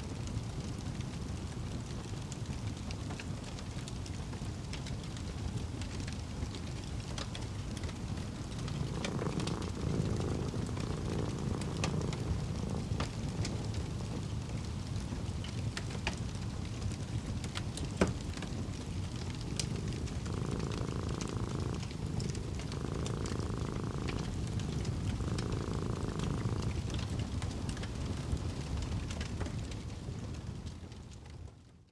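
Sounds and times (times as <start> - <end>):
fireplace fire crackling: 0.0 - 31.6
cat purring: 0.5 - 30.9.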